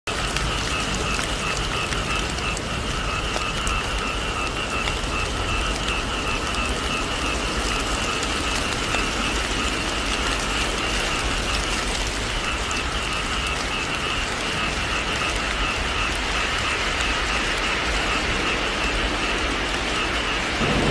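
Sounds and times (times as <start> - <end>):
heavy rain on a thatched roof: 0.1 - 20.9.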